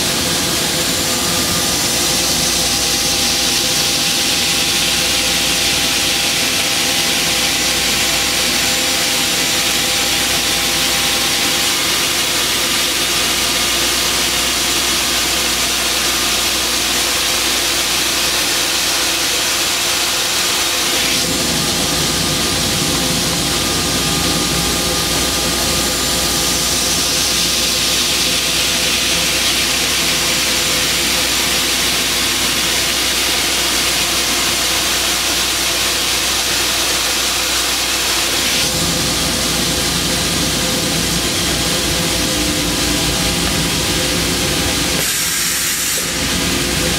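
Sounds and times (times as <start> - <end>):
saw blade whirring and hissing: 0.0 - 46.9.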